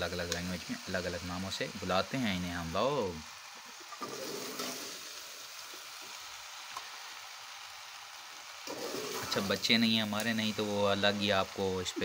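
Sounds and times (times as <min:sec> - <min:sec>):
noodles sizzling in a metal pan: 0:00.0 - 0:12.0.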